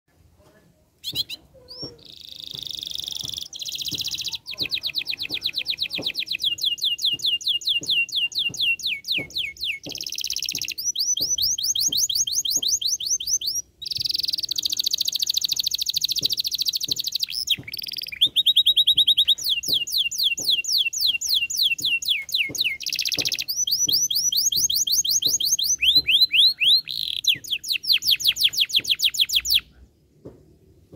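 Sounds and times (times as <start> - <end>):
canary singing trills: 1.0 - 29.7.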